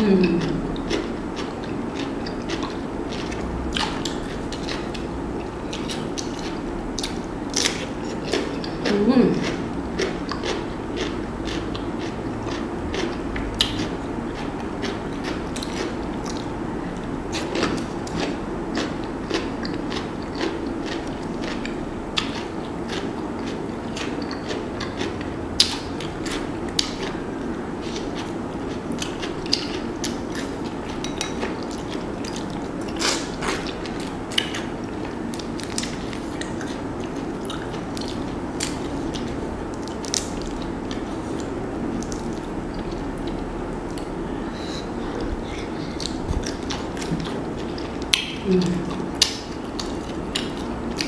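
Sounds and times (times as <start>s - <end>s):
steady background hum: 0.0s - 51.0s
chewing and mouth smacks: 0.8s - 8.8s, 9.4s - 16.5s, 17.3s - 27.2s, 27.8s - 44.2s, 44.8s - 51.0s.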